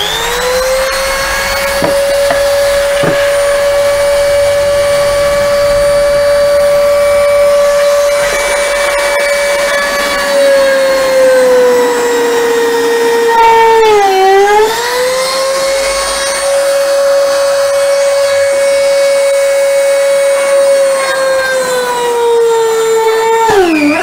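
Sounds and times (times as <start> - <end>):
rotary tool whining: 0.0 - 24.0.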